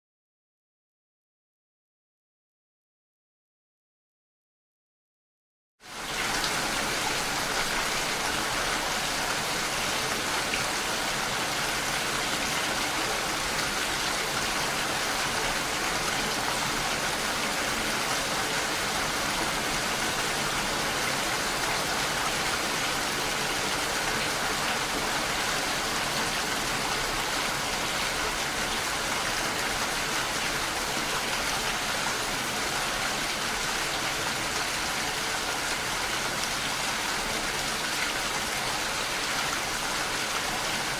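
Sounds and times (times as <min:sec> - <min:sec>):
steady rain falling: 0:05.8 - 0:40.9.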